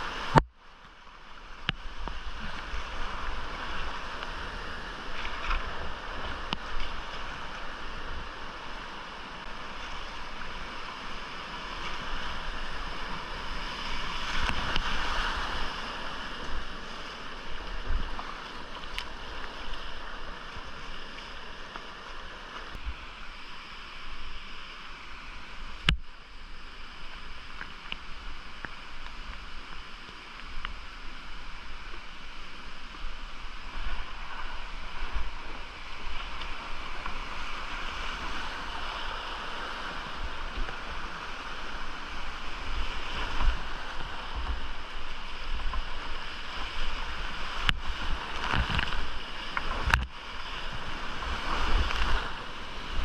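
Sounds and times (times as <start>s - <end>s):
whitewater rushing in creek: 0.0s - 53.0s.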